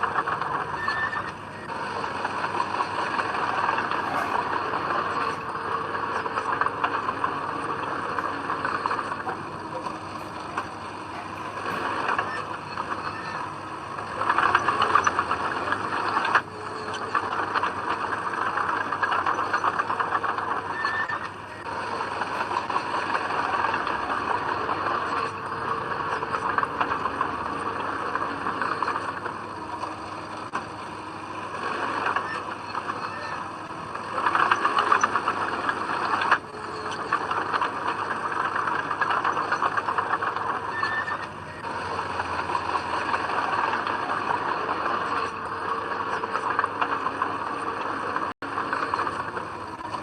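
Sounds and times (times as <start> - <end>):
bulldozer engine and tracks: 0.0 - 50.0.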